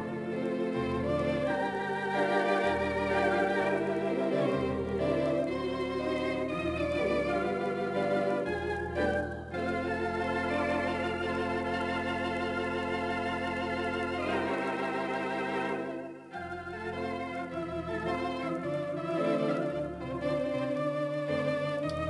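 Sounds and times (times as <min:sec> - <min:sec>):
theatre organ chords: 0:00.0 - 0:22.0.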